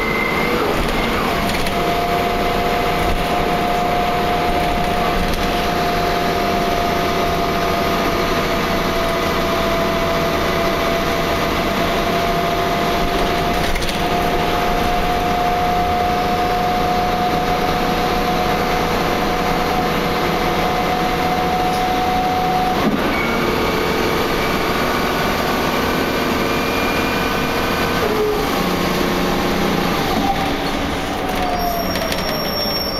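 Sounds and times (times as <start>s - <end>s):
bus running noise with whine: 0.0s - 32.9s.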